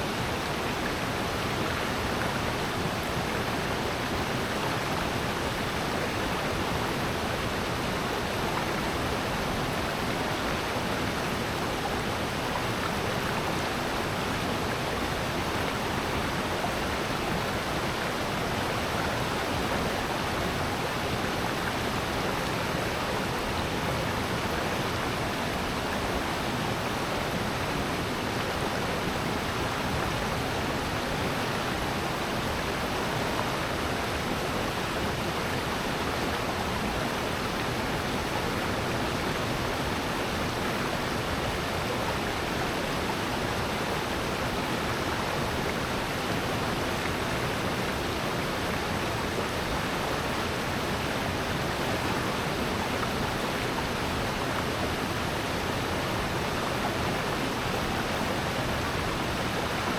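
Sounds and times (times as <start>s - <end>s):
stream rushing water: 0.0s - 59.9s.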